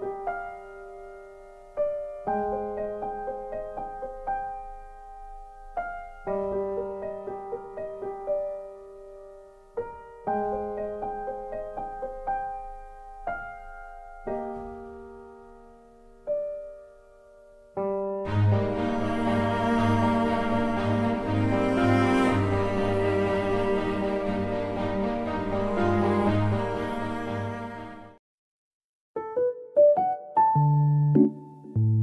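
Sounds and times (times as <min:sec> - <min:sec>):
slow gentle piano melody: 0:00.0 - 0:28.2, 0:29.2 - 0:32.0.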